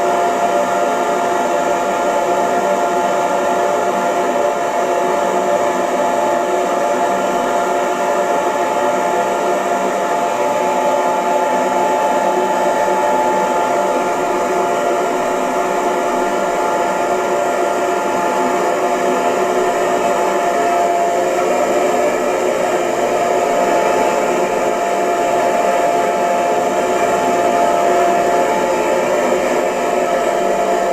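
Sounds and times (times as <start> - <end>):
hair dryer running: 0.0 - 30.9.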